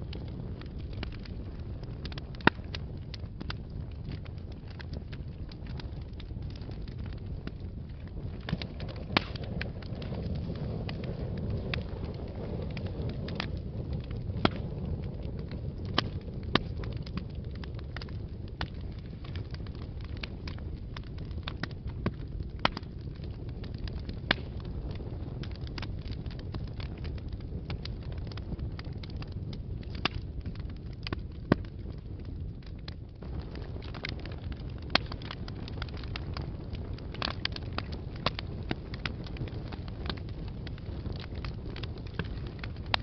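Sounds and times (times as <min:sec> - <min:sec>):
fire crackling and popping: 0:00.0 - 0:43.0
flames rumbling: 0:00.0 - 0:43.0.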